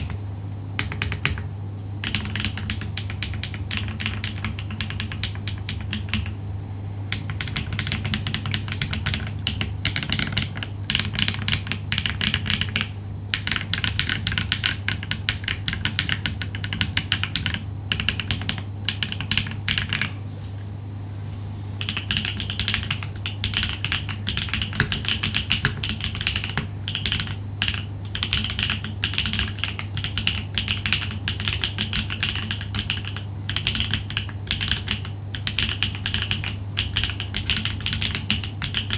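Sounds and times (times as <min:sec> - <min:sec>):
mechanical keyboard typing: 0:00.0 - 0:00.2, 0:00.8 - 0:06.4, 0:07.1 - 0:20.1, 0:21.8 - 0:38.9
steady low hum: 0:00.0 - 0:38.9.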